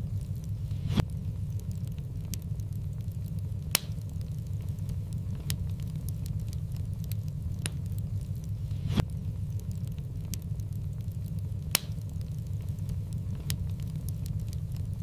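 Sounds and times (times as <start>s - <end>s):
fire crackling and popping: 0.0s - 15.0s
fire rumbling in a fireplace: 0.0s - 15.0s.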